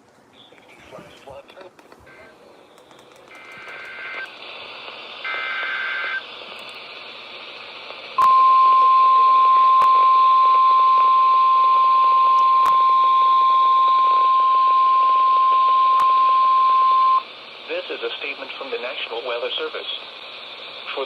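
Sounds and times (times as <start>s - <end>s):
static clicks: 0.0s - 21.0s
static hiss: 0.4s - 21.0s.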